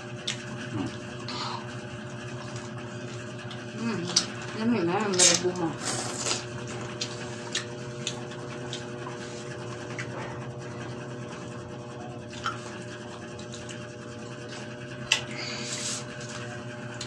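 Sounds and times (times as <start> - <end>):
people chewing pineapple: 0.0 - 17.0
steady low hum: 0.0 - 17.0.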